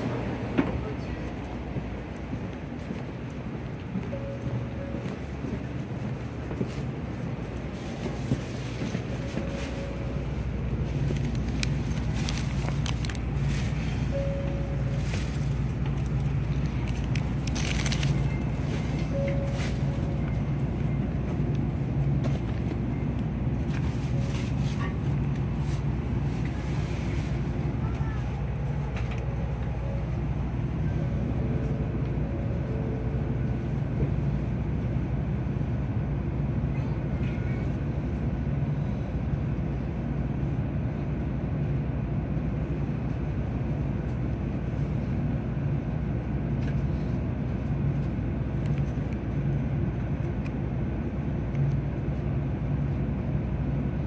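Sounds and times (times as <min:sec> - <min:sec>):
train equipment humming: 0:00.0 - 0:54.0.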